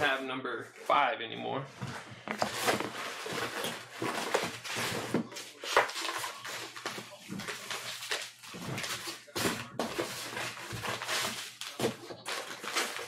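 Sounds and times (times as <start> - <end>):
paper rustling on desk: 1.8 - 13.0.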